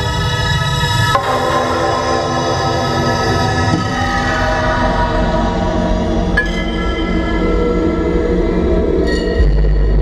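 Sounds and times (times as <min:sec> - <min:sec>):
droning electronic music: 0:00.0 - 0:10.0.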